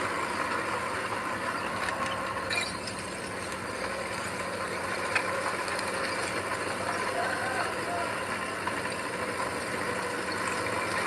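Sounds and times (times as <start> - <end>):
heavy earthmoving machine running: 0.0 - 11.0.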